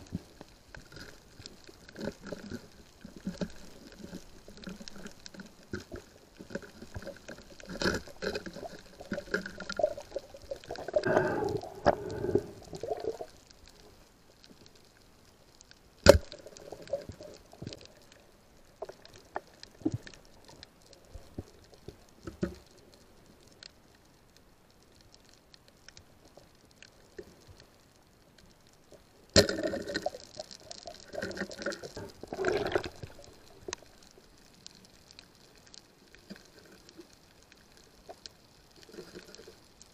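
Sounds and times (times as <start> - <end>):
scattered ticks: 0.0 - 39.9
water sloshing underwater: 0.0 - 39.9.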